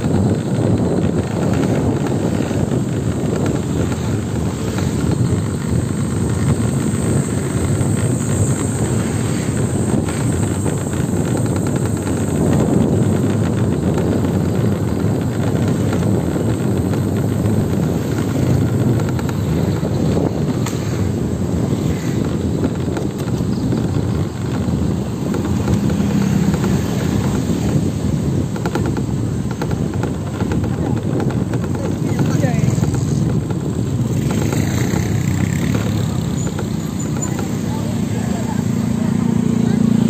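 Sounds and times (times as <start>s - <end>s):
motorbike and car engines rumbling: 0.0s - 40.0s
road noise: 0.0s - 40.0s.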